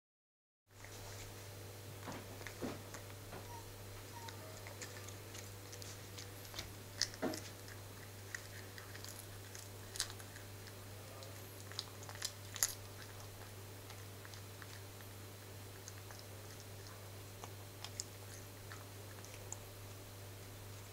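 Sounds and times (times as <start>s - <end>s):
cat chewing bread: 0.7s - 20.9s.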